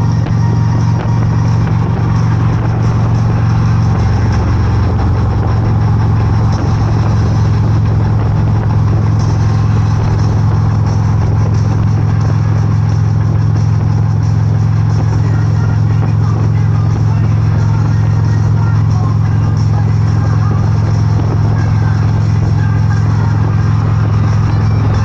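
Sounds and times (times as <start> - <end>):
motorcycle engine running: 0.0 - 25.0
wind noise: 0.0 - 25.0.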